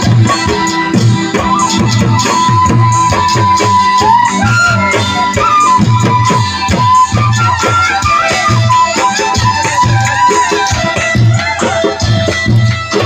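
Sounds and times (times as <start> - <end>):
drum beating steady rhythm: 0.0 - 13.0
keyboard melody: 0.0 - 13.0
violin melody: 0.0 - 13.0.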